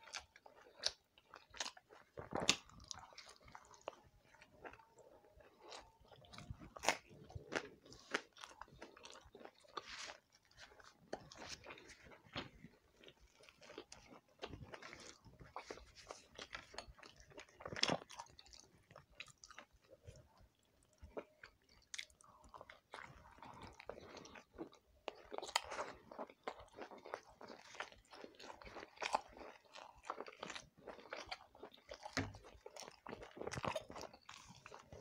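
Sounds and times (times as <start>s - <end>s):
man chewing wetly: 0.0s - 35.0s.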